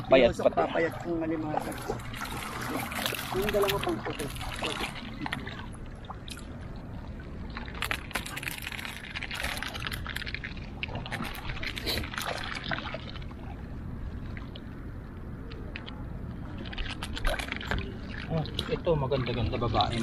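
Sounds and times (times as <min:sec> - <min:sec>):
steady low rumble: 0:00.0 - 0:20.0
water splashing and sloshing: 0:00.0 - 0:20.0.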